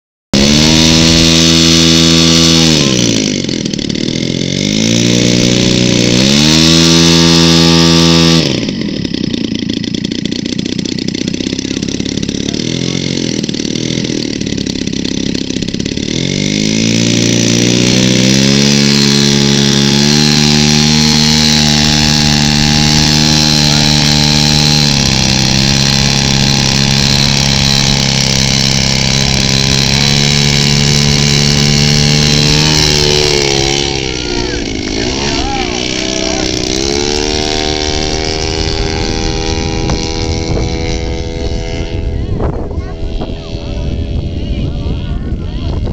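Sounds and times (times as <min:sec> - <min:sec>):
model plane engine revving: 0:00.4 - 0:45.9.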